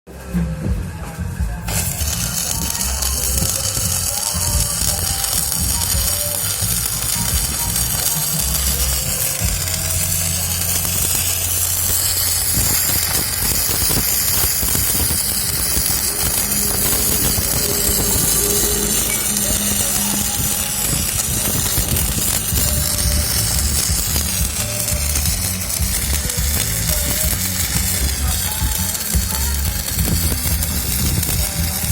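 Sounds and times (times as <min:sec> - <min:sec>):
welding arc crackling hiss: 0:01.6 - 0:31.9.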